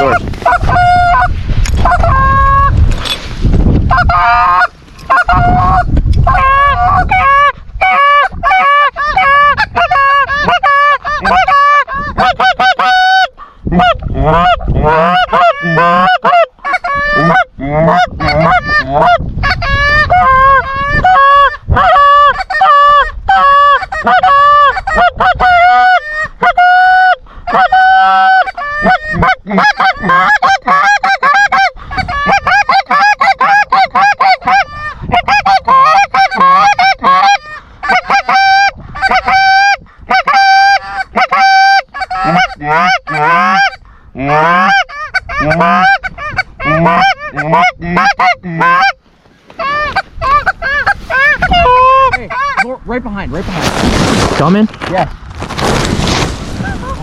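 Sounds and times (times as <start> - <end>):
goose calls honking and clucking: 0.0 - 2.8, 3.9 - 52.9.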